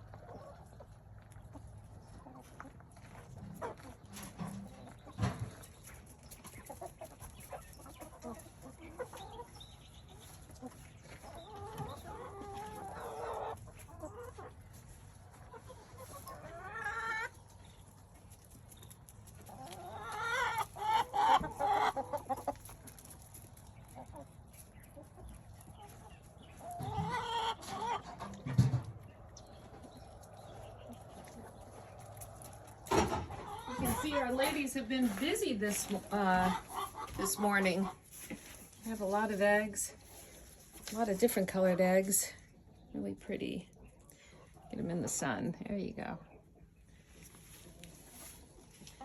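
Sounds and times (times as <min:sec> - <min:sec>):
hens clucking and calling: 0:00.0 - 0:42.9, 0:46.2 - 0:49.0.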